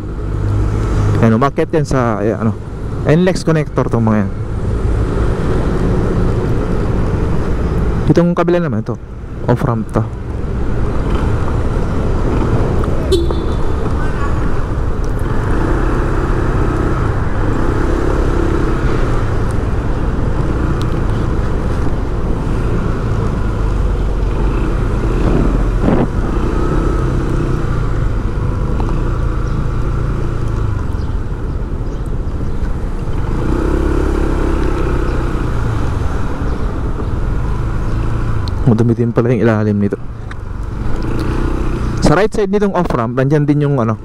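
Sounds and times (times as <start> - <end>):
road traffic rumble: 0.0 - 44.0.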